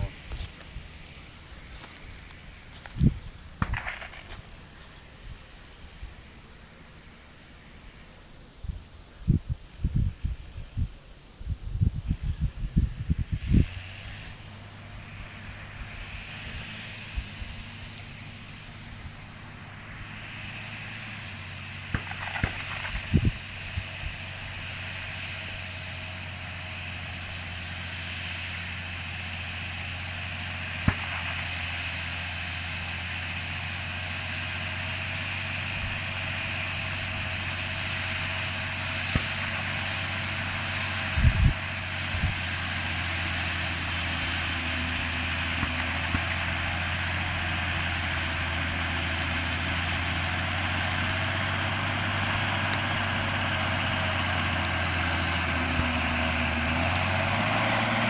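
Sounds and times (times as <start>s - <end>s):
tractor diesel engine under load: 0.0s - 8.0s, 11.7s - 58.0s.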